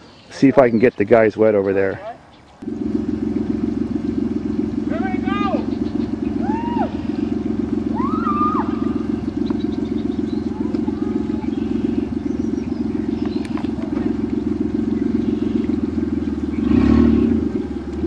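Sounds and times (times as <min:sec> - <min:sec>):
minivan engine idling: 0:02.6 - 0:18.0.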